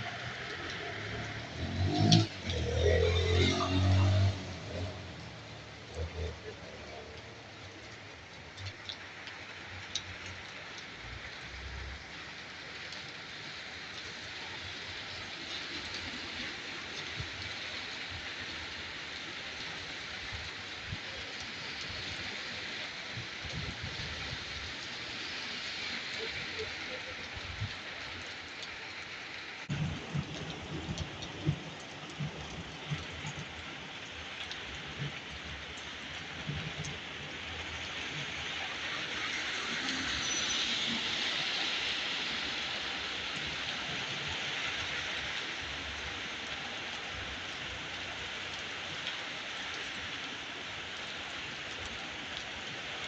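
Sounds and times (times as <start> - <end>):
heavy rain on hard surfaces: 0.0 - 53.0.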